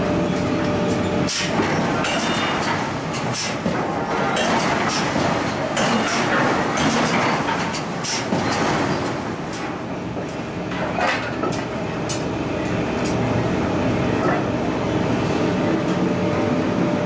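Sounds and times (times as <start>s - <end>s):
machinery rumble: 0.0s - 17.0s.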